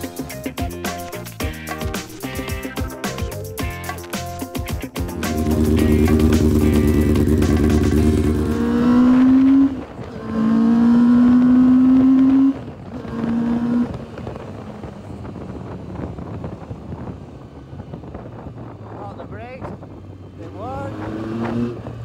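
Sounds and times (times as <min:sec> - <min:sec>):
motorcycle engine accelerating: 0:00.0 - 0:22.0
road noise: 0:00.0 - 0:22.0.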